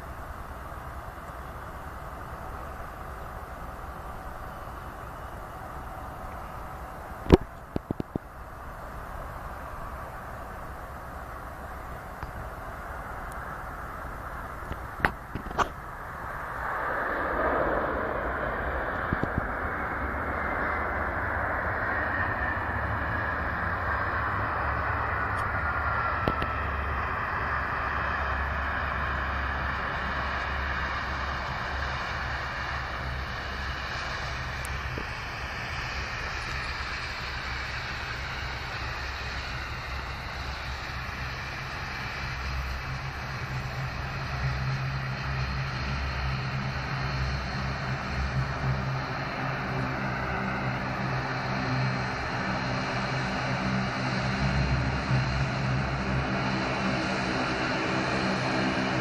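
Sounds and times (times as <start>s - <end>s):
aircraft engines humming: 0.0s - 59.0s.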